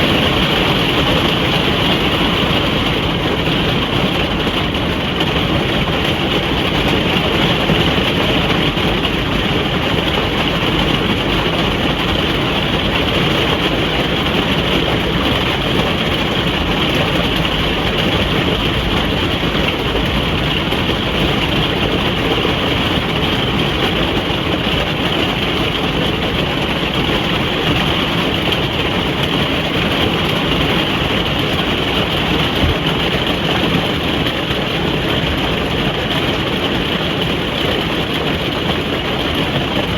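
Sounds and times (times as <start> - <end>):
rain on a caravan roof: 0.0 - 39.9.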